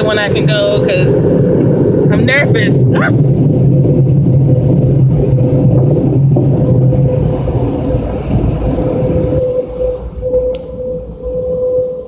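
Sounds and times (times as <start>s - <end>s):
car wash blower roaring: 0.0s - 12.0s
steady machinery hum: 0.0s - 12.0s.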